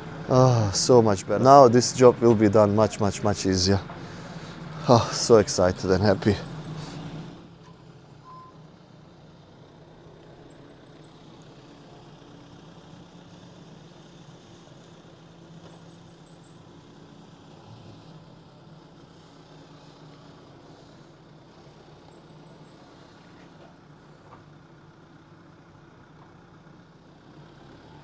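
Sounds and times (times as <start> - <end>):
excavator engine humming: 0.0 - 28.0.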